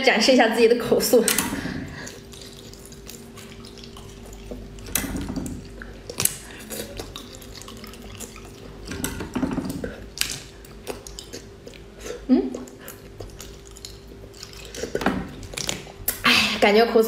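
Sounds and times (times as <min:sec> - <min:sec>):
faint steady hum: 0:00.0 - 0:17.0
wet slurping and sucking: 0:01.6 - 0:09.1, 0:09.7 - 0:16.2.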